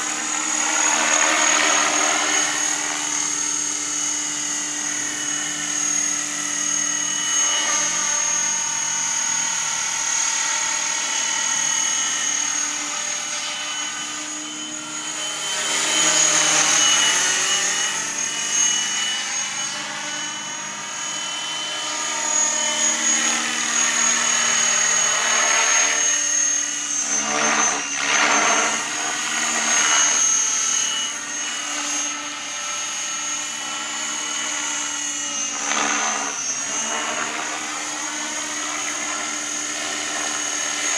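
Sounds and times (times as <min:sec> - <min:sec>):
rc helicopter motor whine: 0:00.0 - 0:40.9
rotor blade noise: 0:00.0 - 0:40.9.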